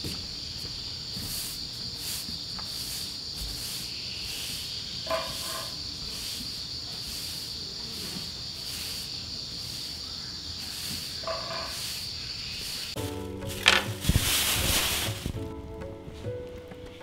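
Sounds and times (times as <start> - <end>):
high-pitched insect drone: 0.0 - 15.3
broom sweeping wooden deck: 0.0 - 16.4.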